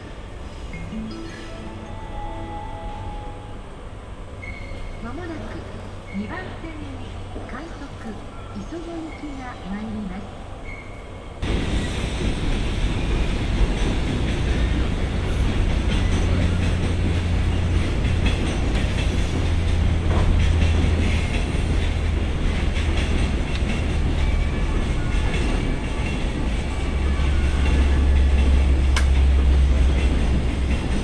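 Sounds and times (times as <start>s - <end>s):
train wagons rolling on tracks: 0.0s - 31.0s.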